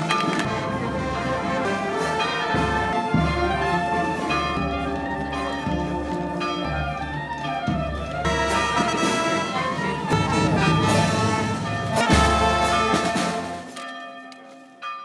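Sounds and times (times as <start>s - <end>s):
brass band playing: 0.0s - 13.8s.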